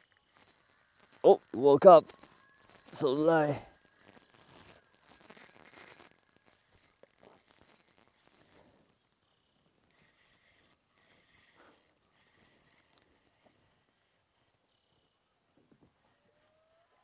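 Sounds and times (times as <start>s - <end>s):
fishing reel ratcheting: 0.0s - 9.1s, 9.8s - 17.0s.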